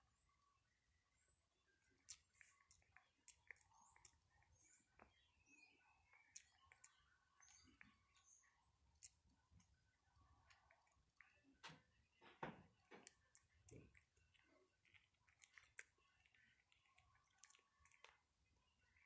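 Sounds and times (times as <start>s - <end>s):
soft monkey mouth sounds: 1.9s - 11.7s, 12.8s - 19.0s.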